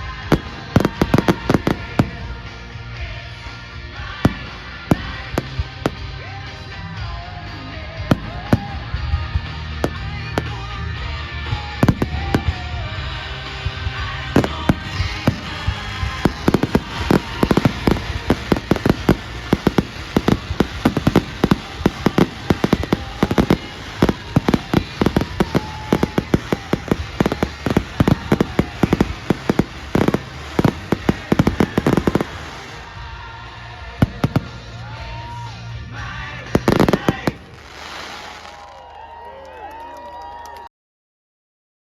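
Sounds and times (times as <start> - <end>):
music playing: 0.0 - 38.6
fireworks bangs and crackles: 0.0 - 39.0.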